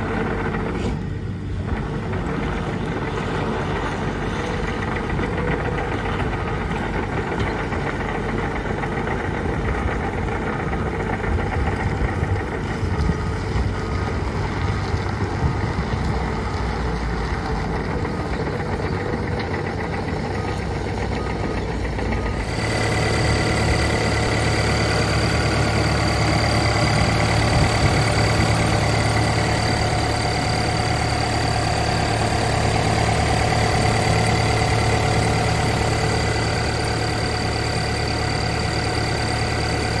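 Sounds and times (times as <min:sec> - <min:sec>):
diesel engine running: 0:00.0 - 0:40.0
high engine whine: 0:00.0 - 0:40.0.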